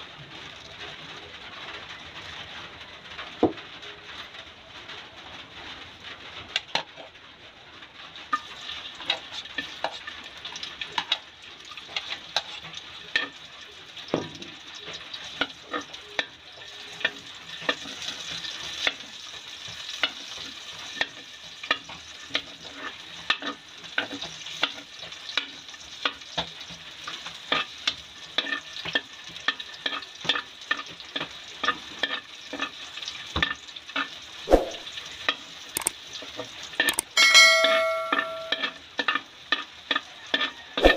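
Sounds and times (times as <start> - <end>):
garlic sizzling in hot oil: 0.0 - 37.0, 38.6 - 40.9.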